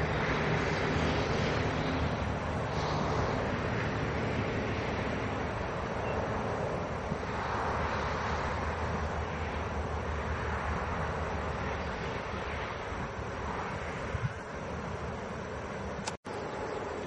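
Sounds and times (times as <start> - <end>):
train rumbling past: 0.0 - 15.9
low engine drone: 0.0 - 17.0.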